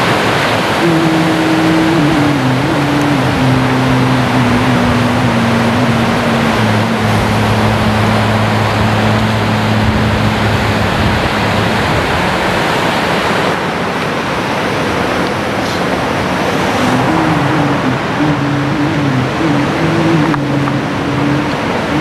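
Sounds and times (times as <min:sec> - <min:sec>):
surf breaking on stony shore: 0:00.0 - 0:22.0
low droning tones: 0:00.7 - 0:22.0.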